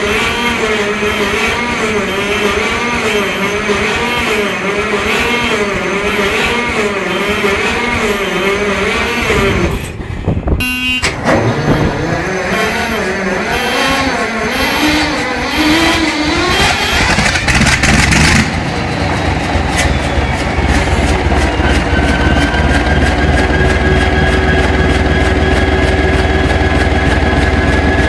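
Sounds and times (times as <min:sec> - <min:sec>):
diesel engine running rough: 0:00.0 - 0:28.0.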